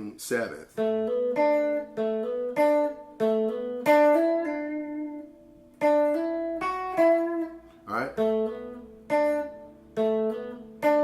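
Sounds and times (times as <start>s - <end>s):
guitar plucking single notes: 0.0s - 11.0s.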